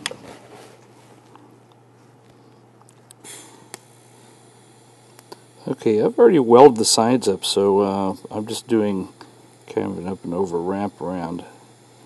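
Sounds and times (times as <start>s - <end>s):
low workshop hum: 0.0s - 12.0s.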